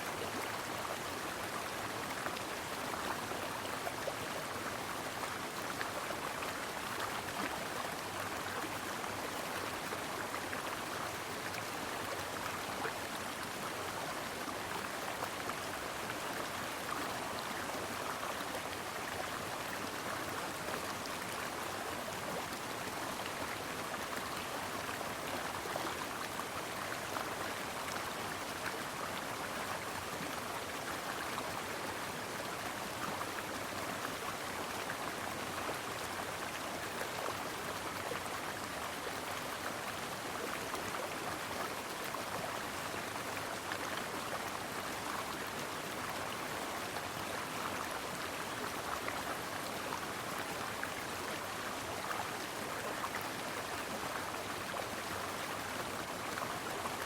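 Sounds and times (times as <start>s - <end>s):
brook babbling over stones: 0.0s - 57.0s.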